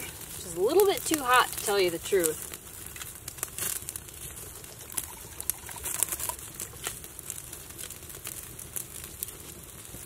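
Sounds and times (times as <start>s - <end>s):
campfire crackling and popping: 0.0s - 10.0s
steak sizzling on fire: 0.0s - 10.0s.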